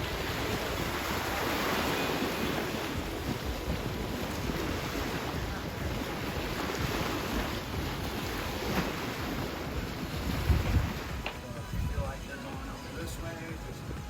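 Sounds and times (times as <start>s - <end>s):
ocean surf: 0.0s - 14.0s
wind buffeting microphone: 0.0s - 14.0s.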